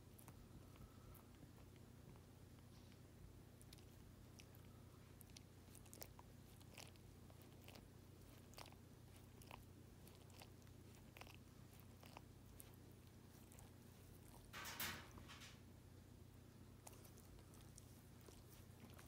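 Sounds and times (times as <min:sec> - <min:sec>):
dog licking and chewing paw: 0:00.0 - 0:15.5, 0:16.6 - 0:19.0.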